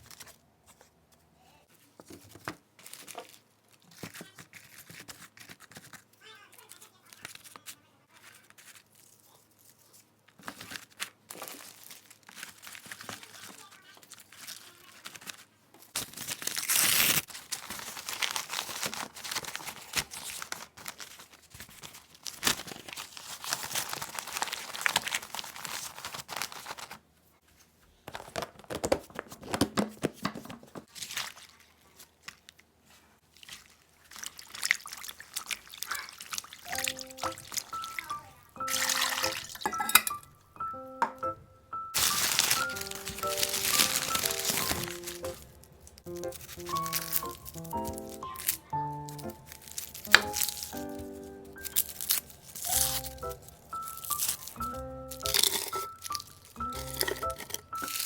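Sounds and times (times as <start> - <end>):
packaging crinkling and rustling: 0.0 - 1.0, 2.0 - 39.7, 42.0 - 58.0.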